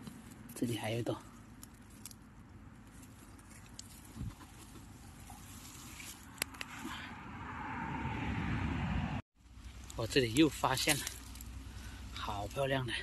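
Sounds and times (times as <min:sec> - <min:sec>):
dry grass and leaves rustling: 0:00.0 - 0:07.0, 0:09.4 - 0:13.0.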